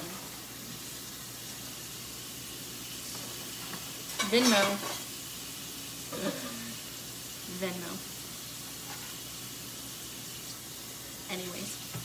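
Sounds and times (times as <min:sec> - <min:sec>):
potatoes sizzling: 0:00.0 - 0:12.0.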